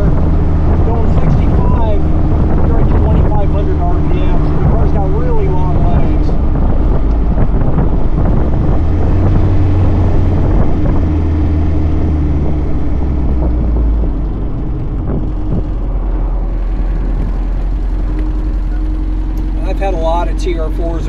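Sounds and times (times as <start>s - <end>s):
car engine running: 0.0s - 21.0s
road and wind noise: 0.0s - 21.0s.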